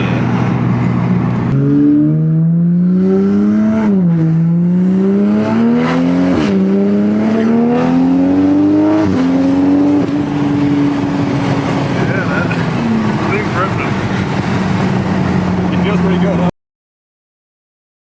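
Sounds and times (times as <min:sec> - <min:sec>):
car engine accelerating hard: 0:00.0 - 0:16.5.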